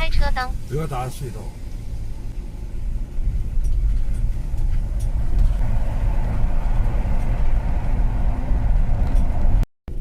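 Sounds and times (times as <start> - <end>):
vehicle engine and tyre rumble: 0.0 - 10.0.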